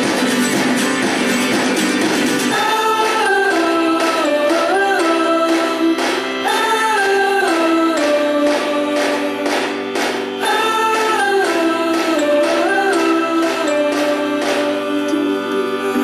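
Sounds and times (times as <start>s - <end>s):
song with sliding sung notes: 0.0s - 16.0s.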